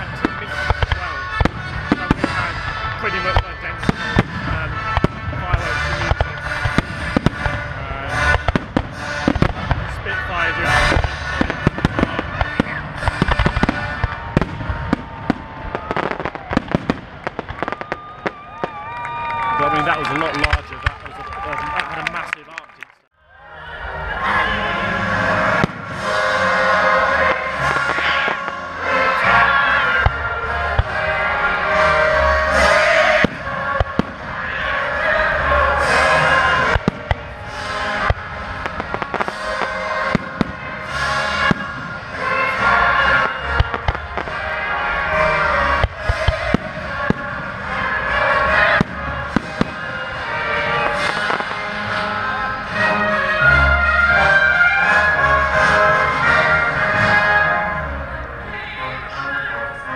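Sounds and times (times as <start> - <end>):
orchestral music: 0.0 - 22.4, 23.2 - 59.9
fireworks bangs and crackling: 0.0 - 22.6, 25.1 - 57.4.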